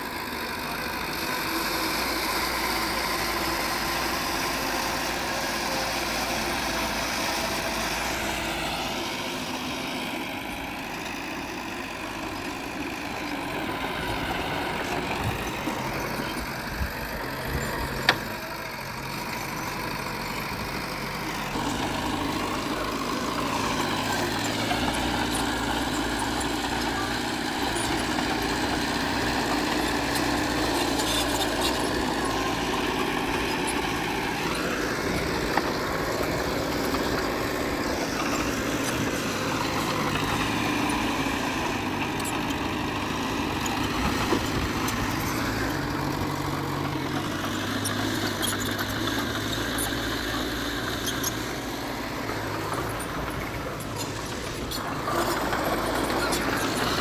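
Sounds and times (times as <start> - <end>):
earthmoving machinery diesel engine: 0.0 - 57.0.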